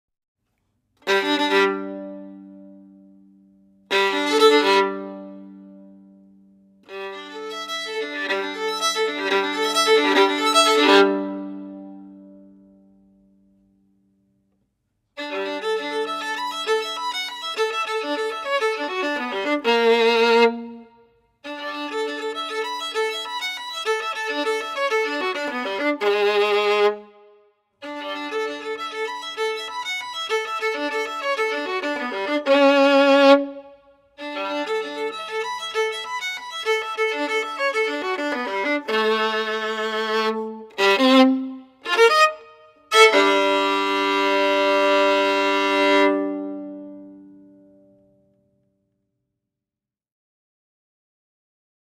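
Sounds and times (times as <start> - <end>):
solo violin playing: 1.0 - 13.2, 15.2 - 48.2.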